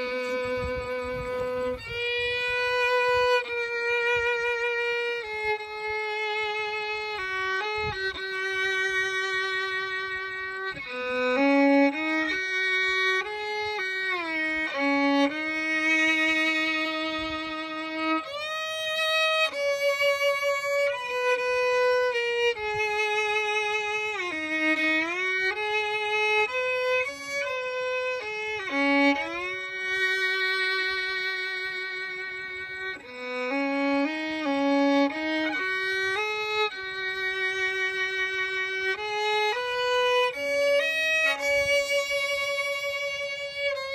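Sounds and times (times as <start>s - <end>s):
solo bowed fiddle melody: 0.0s - 43.9s.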